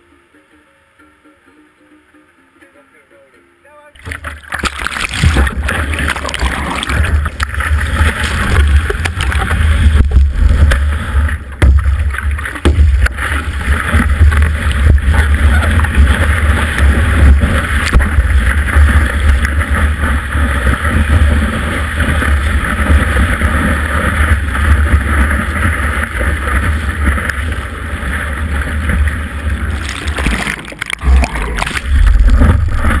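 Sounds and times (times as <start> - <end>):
surf whitewater rushing: 4.0 - 33.0.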